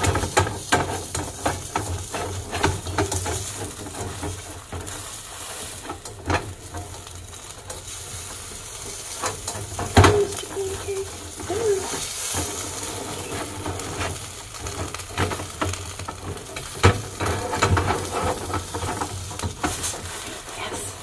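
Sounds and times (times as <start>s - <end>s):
pancake frying: 0.0s - 21.0s
spatula scraping and knocking pan: 0.0s - 21.0s.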